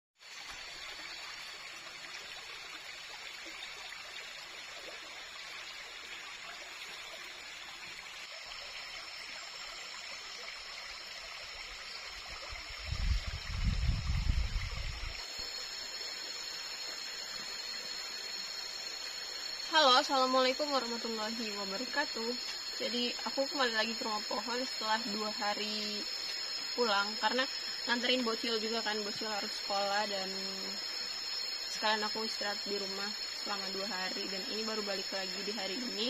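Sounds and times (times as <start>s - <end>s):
stream flowing: 0.2s - 36.0s.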